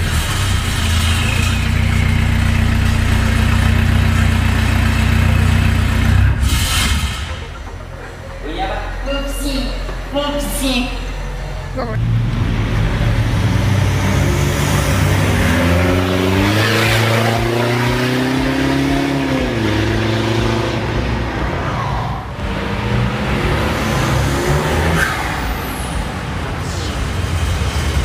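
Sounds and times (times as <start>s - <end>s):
diesel pickup exhaust accelerating: 0.0s - 28.0s.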